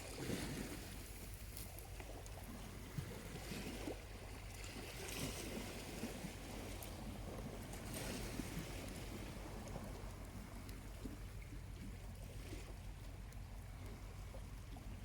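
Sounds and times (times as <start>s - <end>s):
small waves lapping on beach: 0.0s - 15.0s.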